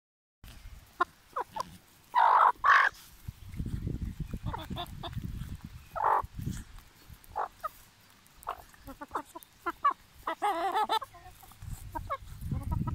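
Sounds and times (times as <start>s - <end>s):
chickens squawking and clucking: 0.8s - 12.9s.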